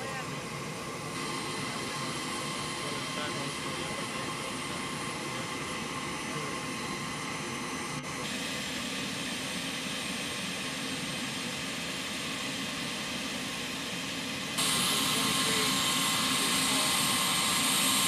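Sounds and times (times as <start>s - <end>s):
aircraft engines running: 0.0s - 18.0s.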